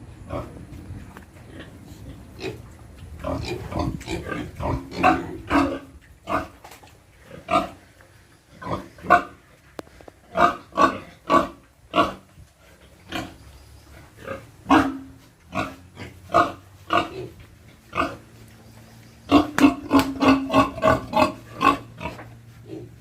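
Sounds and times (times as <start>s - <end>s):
pigs grunting: 0.2s - 7.8s, 8.5s - 9.4s, 10.3s - 18.4s, 19.2s - 23.0s.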